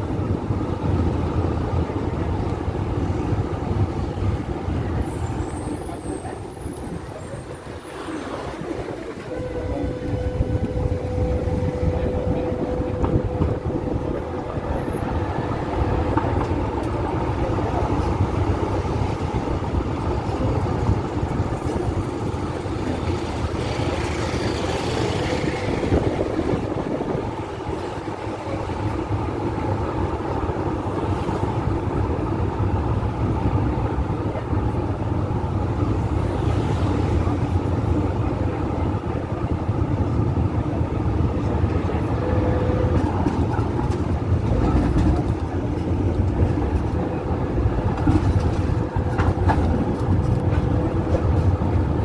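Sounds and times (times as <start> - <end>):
tram rumbling on rails: 0.0 - 52.0.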